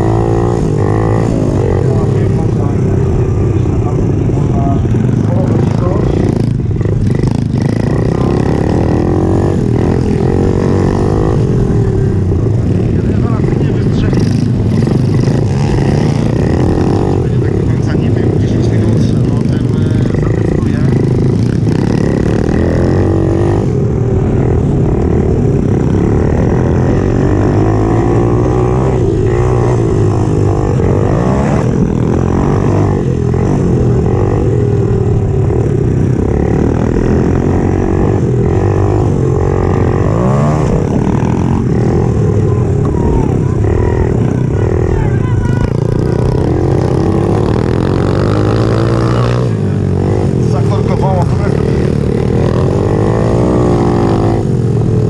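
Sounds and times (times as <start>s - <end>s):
small motorbike engine revving: 0.0s - 55.0s.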